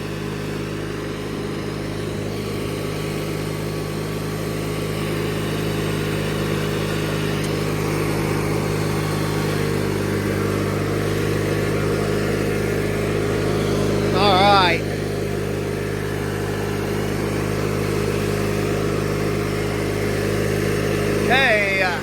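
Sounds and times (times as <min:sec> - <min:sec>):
riding lawnmower engine running: 0:00.0 - 0:22.0.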